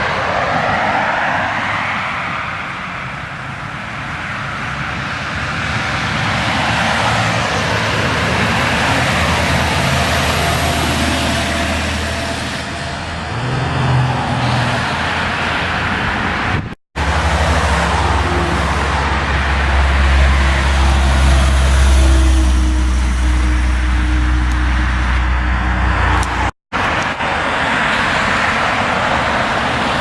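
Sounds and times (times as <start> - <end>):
heavy truck engine drone: 0.0 - 30.0
road traffic tyre and engine noise: 0.0 - 30.0.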